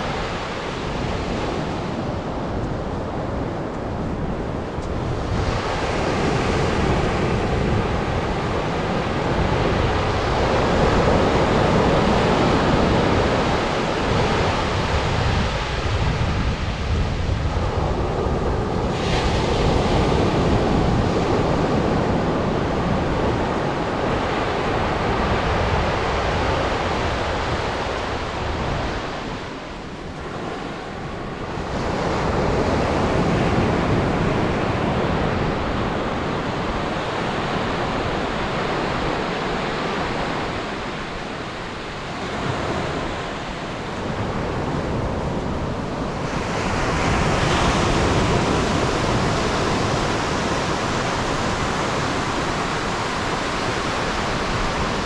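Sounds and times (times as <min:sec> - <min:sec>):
surf breaking on a beach: 0:00.0 - 0:55.0
wind noise on microphone: 0:00.0 - 0:55.0.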